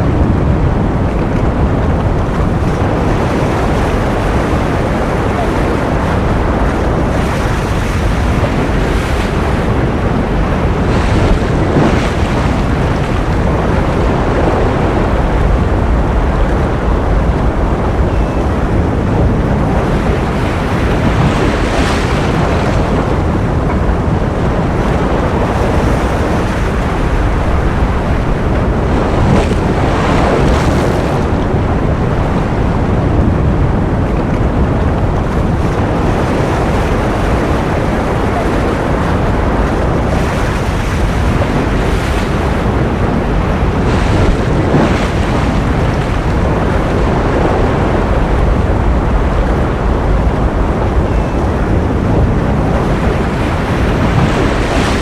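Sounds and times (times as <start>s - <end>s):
ocean waves rushing: 0.0s - 55.0s.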